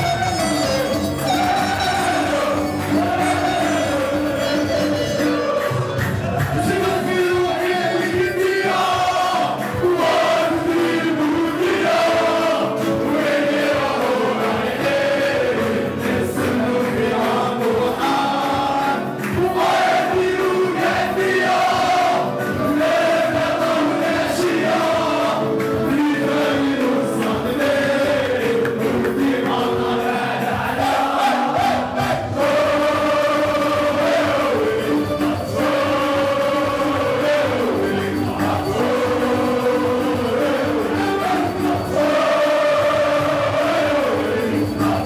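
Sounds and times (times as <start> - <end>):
crowd of men chanting: 1.6 - 45.0.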